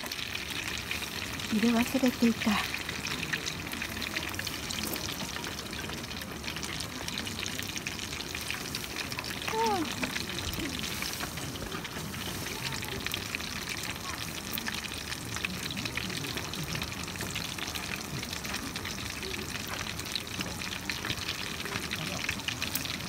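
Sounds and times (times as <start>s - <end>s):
food deep-frying in hot oil: 0.0s - 23.0s.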